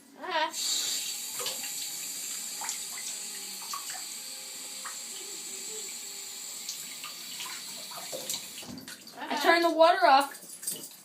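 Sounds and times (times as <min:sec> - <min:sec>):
water running from a tap: 0:00.6 - 0:11.0.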